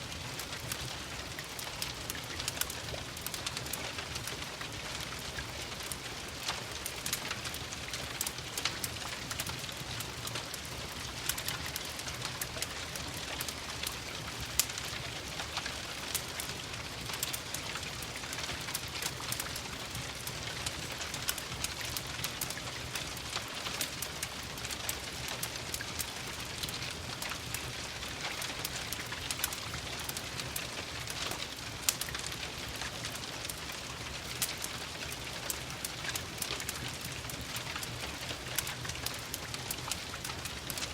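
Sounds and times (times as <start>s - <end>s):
rain patter: 0.0s - 40.9s
wood fire crackling: 0.0s - 40.9s.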